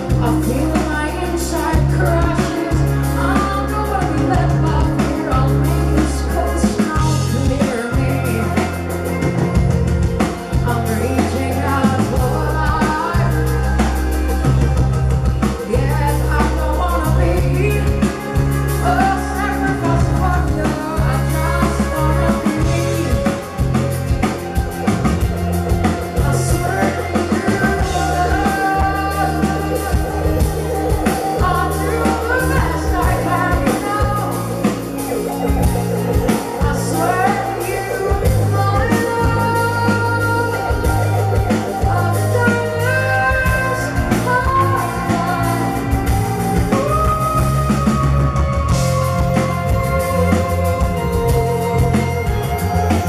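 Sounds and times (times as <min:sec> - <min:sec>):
drum kit: 0:00.0 - 0:53.0
low bass notes: 0:00.0 - 0:53.0
pop-rock band playing: 0:00.0 - 0:53.0
woman singing: 0:00.0 - 0:53.0.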